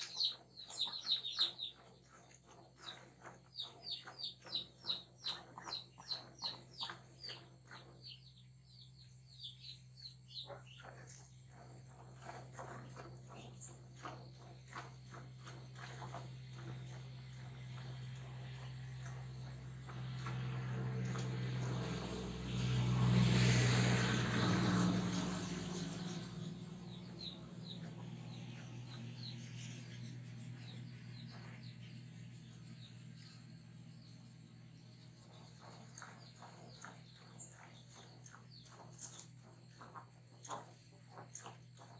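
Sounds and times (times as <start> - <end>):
low motor hum: 0.0 - 41.9.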